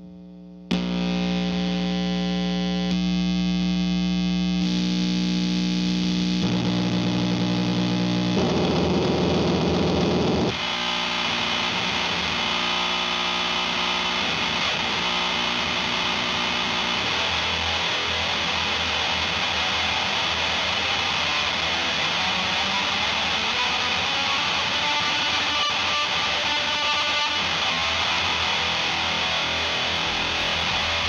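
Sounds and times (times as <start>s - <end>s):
distorted electric guitar: 0.0s - 31.0s.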